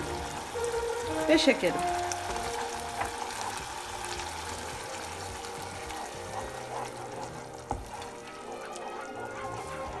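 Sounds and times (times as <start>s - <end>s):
faint background music: 0.0s - 10.0s
wooden spoon stirring sauce: 0.1s - 10.0s.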